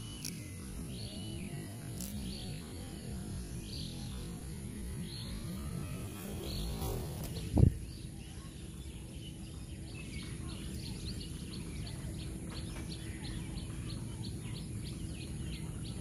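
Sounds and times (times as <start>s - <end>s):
low outdoor noise: 0.0s - 16.0s.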